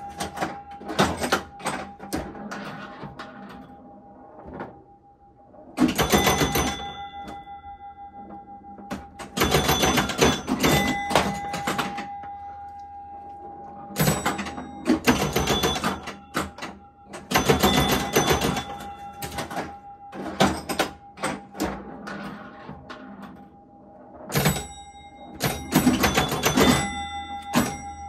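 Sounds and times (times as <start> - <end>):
pinball chime tones ringing: 0.0 - 28.0
pinball machine mechanical clacking: 0.0 - 28.0.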